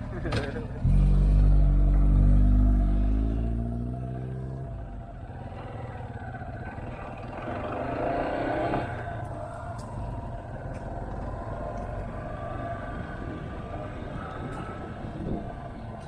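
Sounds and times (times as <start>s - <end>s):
motorcycle engine accelerating: 0.0s - 15.7s
faint second engine: 0.0s - 16.0s
road noise: 0.0s - 16.0s.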